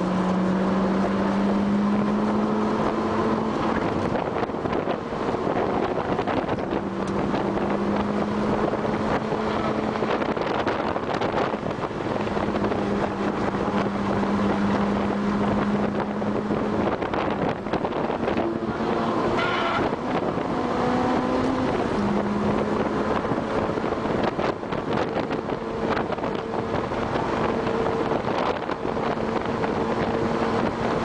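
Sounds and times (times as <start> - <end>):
car engine from inside cabin: 0.0 - 31.0
wind and road noise: 0.0 - 31.0.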